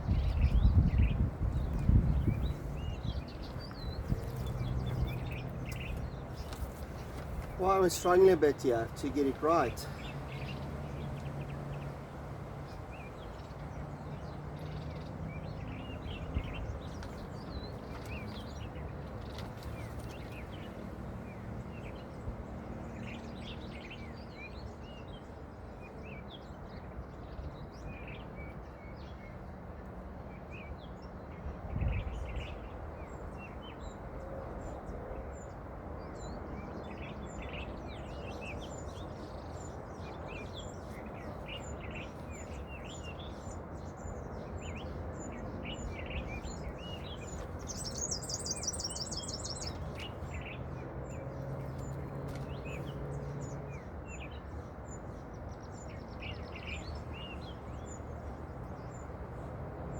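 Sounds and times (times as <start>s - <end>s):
small birds chirping: 0.0s - 29.6s, 30.5s - 59.9s
steady outdoor background hum: 0.0s - 59.9s.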